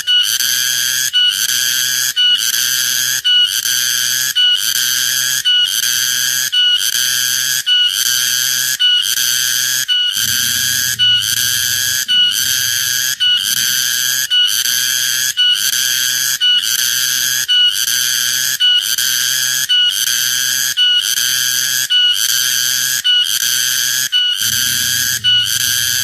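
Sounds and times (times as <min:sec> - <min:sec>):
cicada buzzing song: 0:00.0 - 0:26.0.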